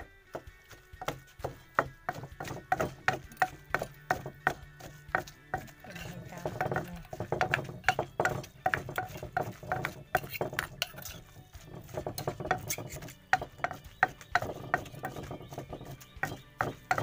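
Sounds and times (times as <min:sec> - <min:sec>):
pestle pounding in a mortar: 0:00.0 - 0:17.0.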